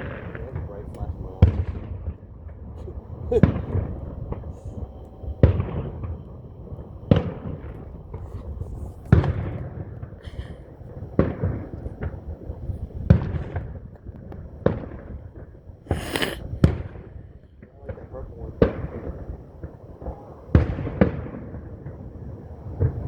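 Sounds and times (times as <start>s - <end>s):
rolling rumble: 0.0s - 23.0s
smaller fireworks bangs: 0.0s - 23.0s
fireworks shells bursting: 2.8s - 21.5s.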